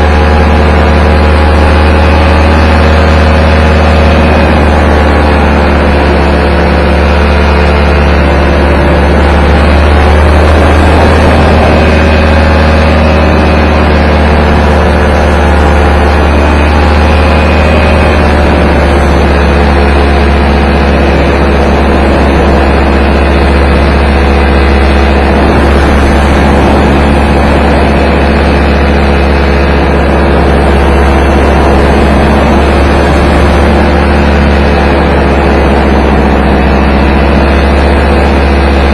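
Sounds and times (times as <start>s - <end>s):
paramotor engine running: 0.0s - 38.9s
wind rumble on the microphone: 0.0s - 38.9s.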